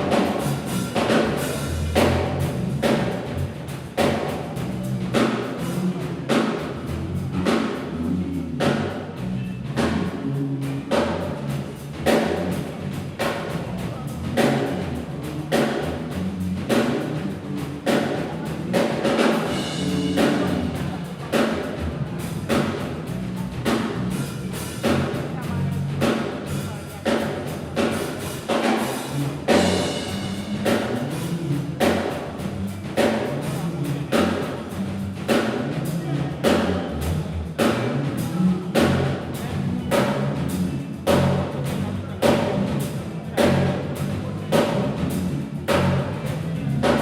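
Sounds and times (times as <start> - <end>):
drum kit groove: 0.0 - 47.0
low pitched bass notes: 0.0 - 47.0.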